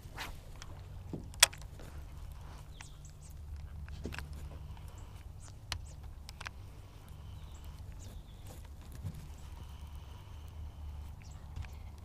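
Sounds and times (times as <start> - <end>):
low steady rumble: 0.0 - 12.0
bird chirps: 1.8 - 12.0.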